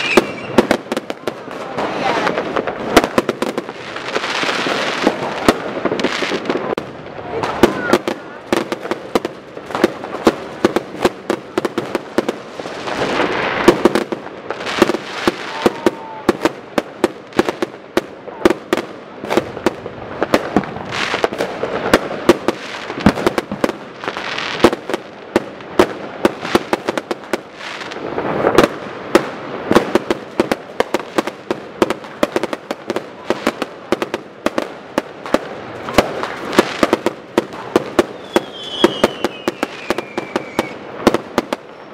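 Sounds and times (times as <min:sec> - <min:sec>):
crackling: 0:00.0 - 0:41.9
fireworks and firecrackers banging: 0:00.0 - 0:41.9.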